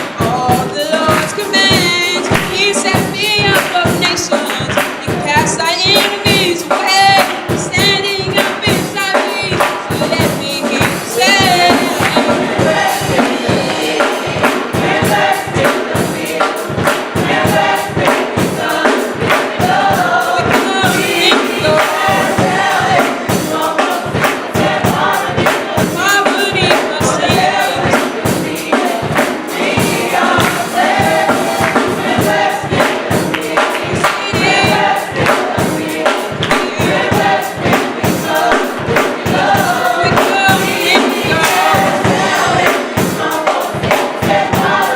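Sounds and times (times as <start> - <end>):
band with steady beat: 0.0 - 44.9
gospel choir singing: 0.0 - 44.9.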